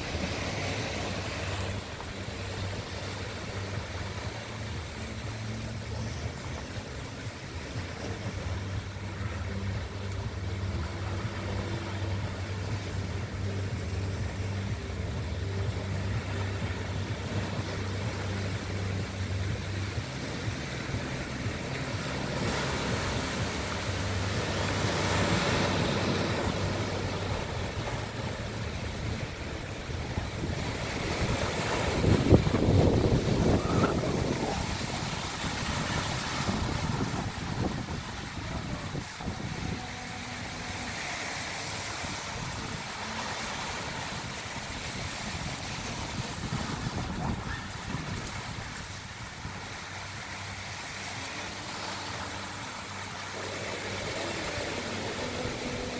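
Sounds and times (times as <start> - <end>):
low engine hum: 0.0 - 55.9
small waves washing on beach: 0.0 - 55.9.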